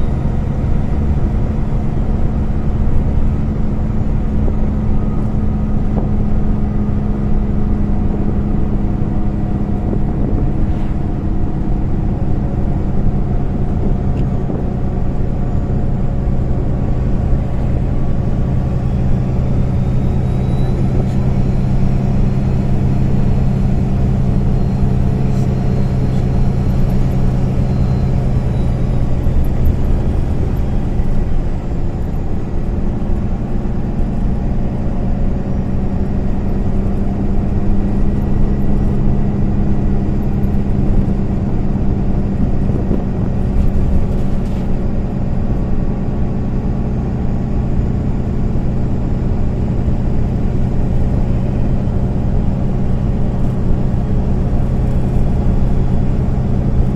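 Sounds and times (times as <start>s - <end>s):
bus engine droning: 0.0s - 56.9s
road and tyre rumble: 0.0s - 56.9s.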